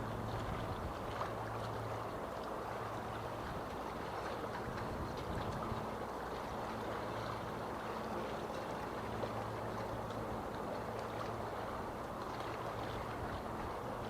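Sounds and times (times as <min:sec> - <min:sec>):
waves lapping and splashing: 0:00.0 - 0:14.0.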